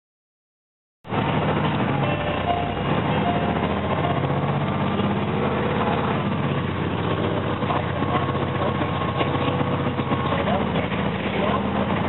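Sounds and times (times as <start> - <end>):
bus diesel engine running: 1.1 - 12.0.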